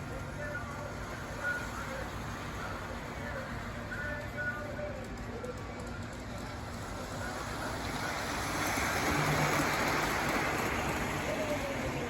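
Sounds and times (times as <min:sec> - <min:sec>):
model train rolling rumble: 0:00.0 - 0:12.0.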